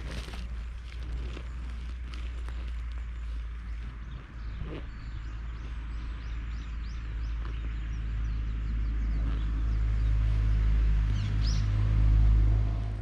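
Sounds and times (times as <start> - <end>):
birds chirping: 0.0 - 11.8
vehicle engine rumble: 0.0 - 13.0.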